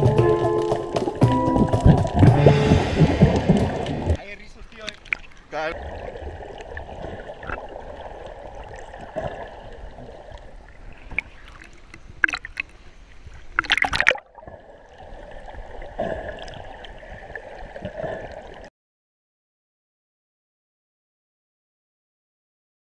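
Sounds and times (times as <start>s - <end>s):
muffled water sloshing: 0.0s - 18.7s
water splashes: 0.0s - 18.7s.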